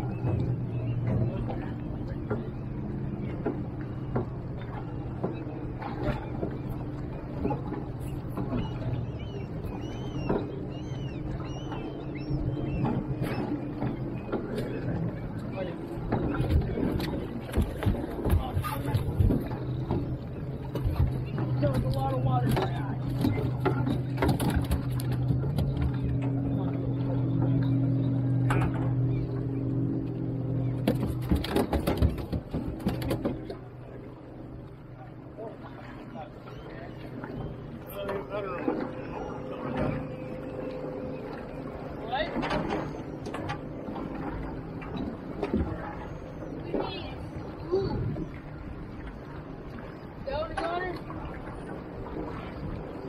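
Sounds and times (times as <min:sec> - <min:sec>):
bird calls: 0:00.0 - 0:53.0
outboard motor idling: 0:00.0 - 0:53.0
water slapping against hull: 0:00.0 - 0:53.0.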